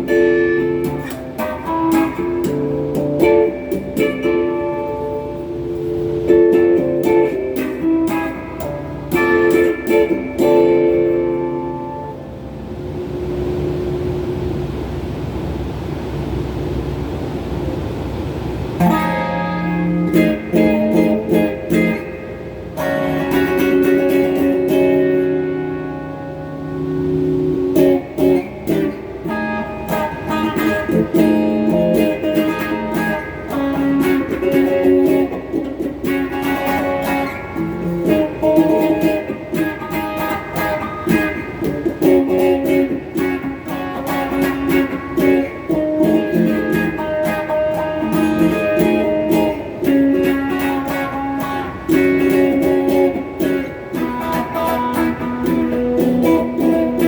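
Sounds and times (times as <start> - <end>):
overdriven electric guitar chords: 0.0 - 57.0.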